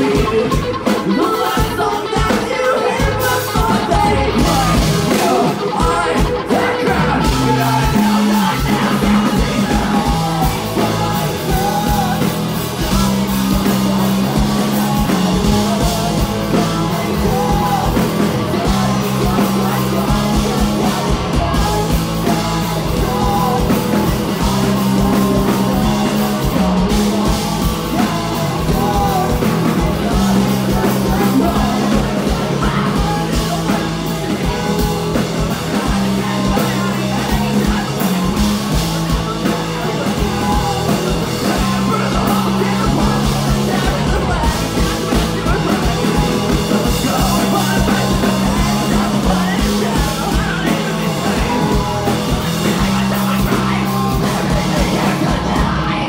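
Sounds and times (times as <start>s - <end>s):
bass guitar: 0.0s - 56.0s
drums: 0.0s - 56.0s
electric guitars: 0.0s - 56.0s
person singing: 0.0s - 56.0s.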